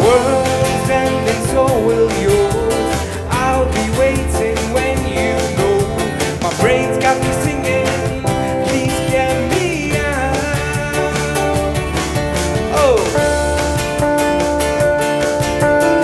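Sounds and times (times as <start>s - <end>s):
drum beat: 0.0s - 16.0s
guitars: 0.0s - 16.0s
live band music: 0.0s - 16.0s
sliding melody line: 0.0s - 16.0s.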